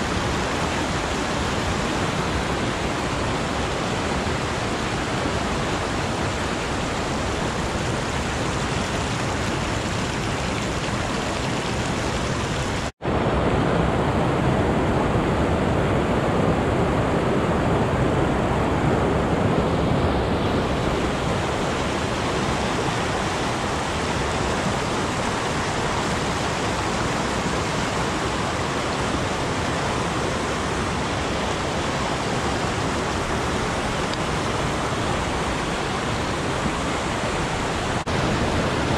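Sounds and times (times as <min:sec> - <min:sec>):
creek rushing over boulders: 0:00.0 - 0:38.9.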